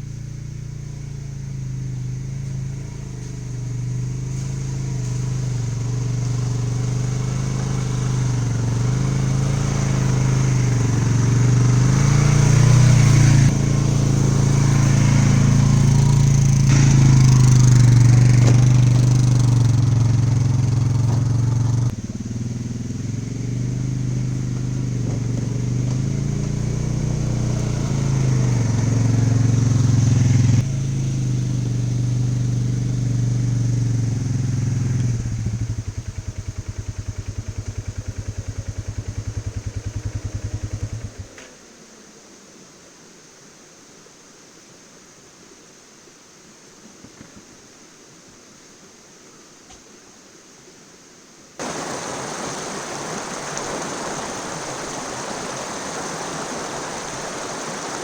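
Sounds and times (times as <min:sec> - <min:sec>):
atv engine revving: 0:00.0 - 0:41.6, 0:51.6 - 0:58.0.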